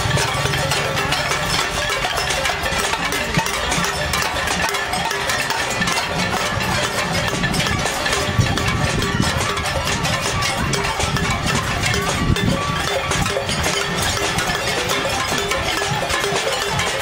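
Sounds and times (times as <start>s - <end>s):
pots and pans being struck: 0.0s - 17.0s.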